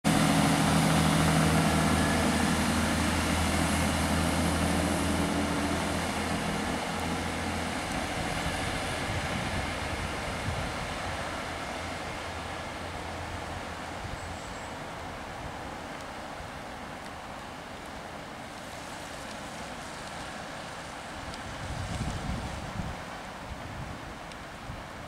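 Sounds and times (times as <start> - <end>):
diesel train engine drone: 0.0 - 24.7.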